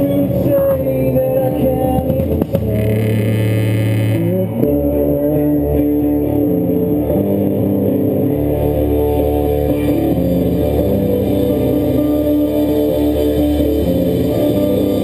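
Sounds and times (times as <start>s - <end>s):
bass line: 0.0s - 15.0s
guitar sustained notes: 0.0s - 15.0s.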